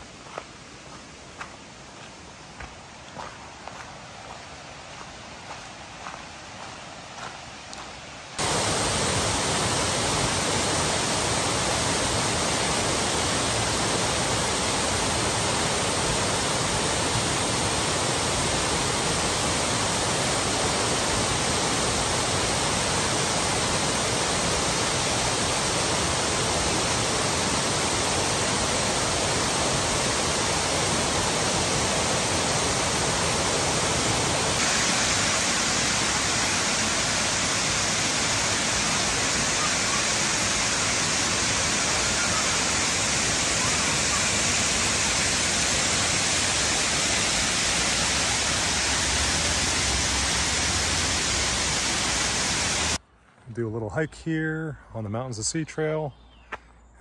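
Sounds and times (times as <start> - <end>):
waterfall rushing over rocks: 0.0 - 53.0.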